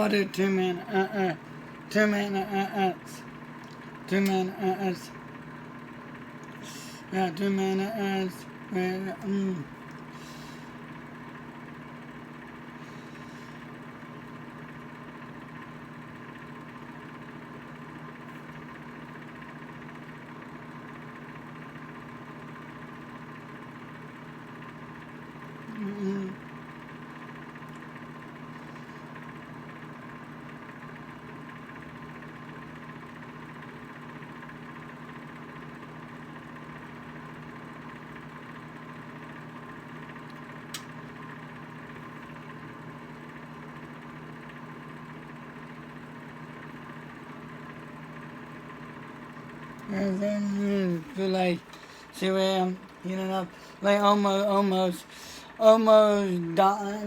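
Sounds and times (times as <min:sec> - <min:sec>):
microwave oven humming: 0:00.0 - 0:57.0.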